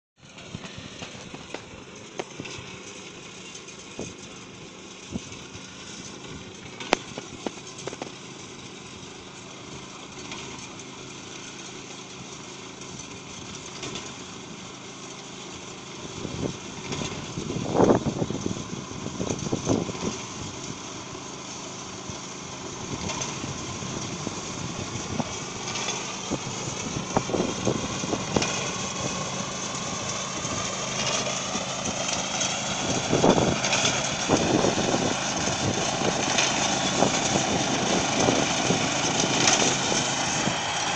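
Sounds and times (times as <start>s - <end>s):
small engine running: 0.2s - 40.9s.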